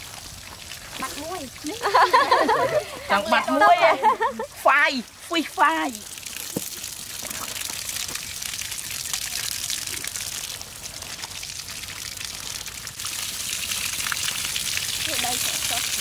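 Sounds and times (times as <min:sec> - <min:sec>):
water splashing over fish: 0:00.0 - 0:16.0.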